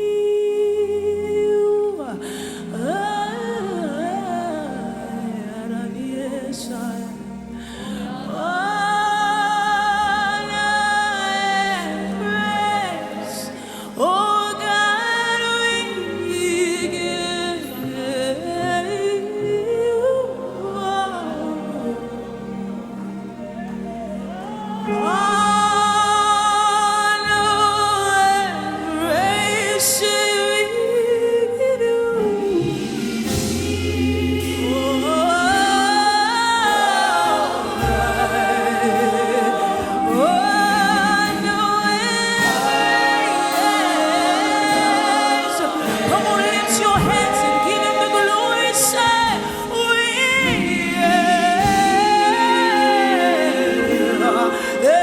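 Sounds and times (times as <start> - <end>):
choir singing: 0.0 - 55.0
lead voice singing gospel: 0.0 - 55.0
sustained keyboard chords: 0.0 - 55.0.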